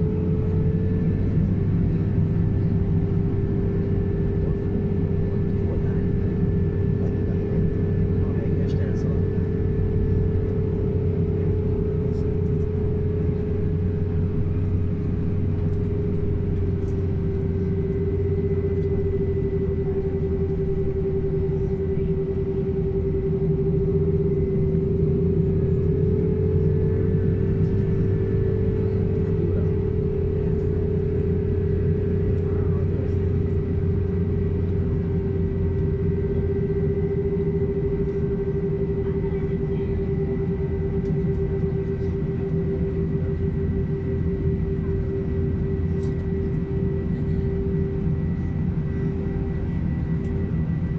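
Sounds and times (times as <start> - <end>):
aircraft cabin drone: 0.0 - 50.9
mid-pitched hum: 0.0 - 50.9.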